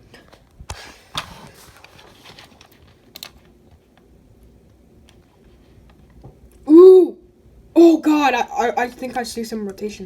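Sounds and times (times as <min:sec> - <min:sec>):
faint low background noise: 0:00.0 - 0:10.0.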